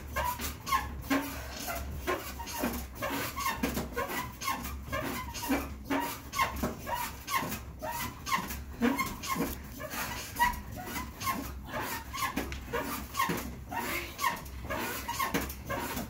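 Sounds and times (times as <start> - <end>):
elliptical trainer squeaking: 0.0 - 16.0.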